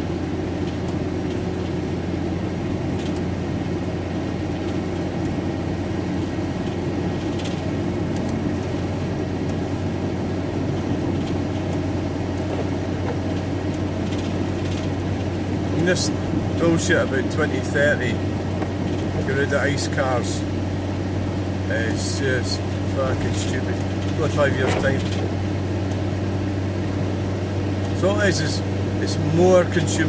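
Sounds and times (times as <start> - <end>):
tyres on wet road: 0.0 - 30.0
van engine drone: 0.0 - 30.0.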